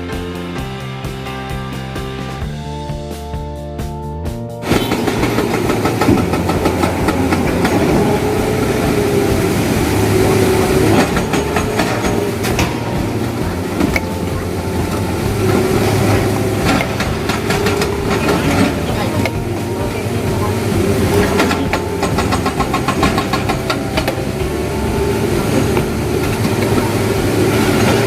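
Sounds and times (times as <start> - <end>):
diesel engine running: 4.6 - 28.0
hydraulic breaker hammering rock: 4.6 - 28.0.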